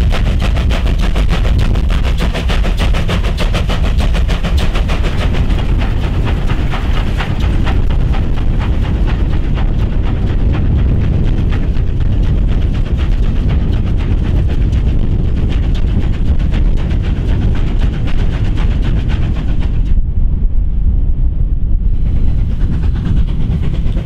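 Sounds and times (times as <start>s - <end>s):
steam locomotive chuffing: 0.0s - 20.0s, 22.0s - 24.0s
low rumble: 0.0s - 24.0s.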